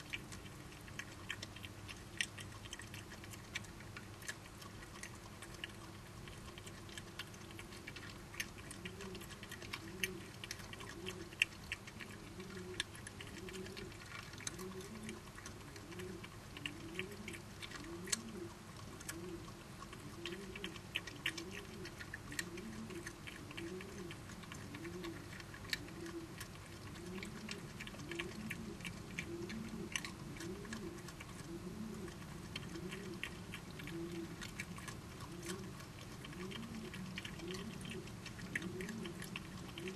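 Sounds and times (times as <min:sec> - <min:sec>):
badgers chewing: 0:00.0 - 0:39.9.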